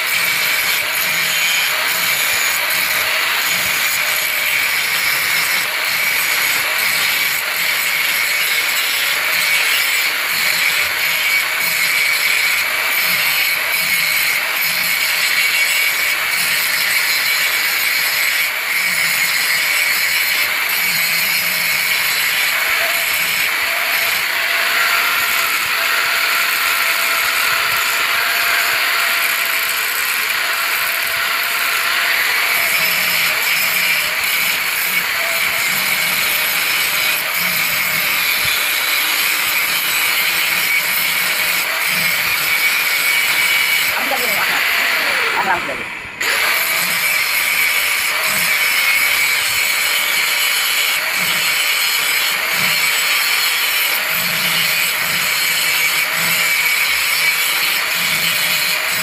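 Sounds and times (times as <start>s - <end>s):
angle grinder grinding steel: 0.0s - 59.0s.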